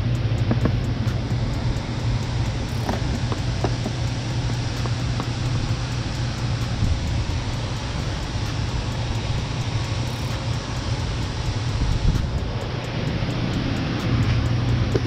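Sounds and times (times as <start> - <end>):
low hum: 0.0 - 15.0
steady rushing noise: 0.0 - 15.0.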